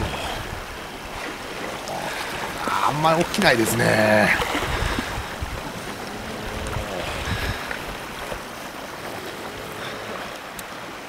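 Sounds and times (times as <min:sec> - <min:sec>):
wind buffeting microphone: 0:00.0 - 0:09.8
sea: 0:00.0 - 0:11.0.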